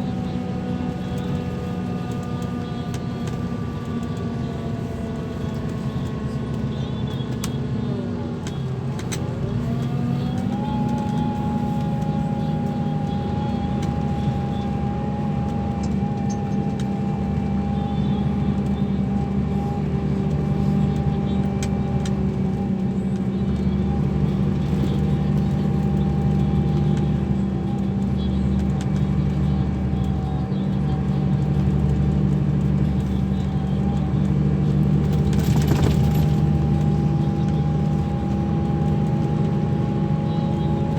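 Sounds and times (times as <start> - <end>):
coach engine running: 0.0 - 40.9.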